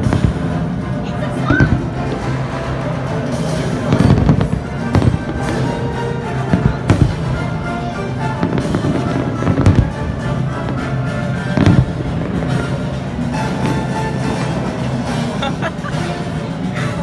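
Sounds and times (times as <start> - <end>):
fireworks bangs: 0.0 - 16.7
steady music: 0.0 - 17.0.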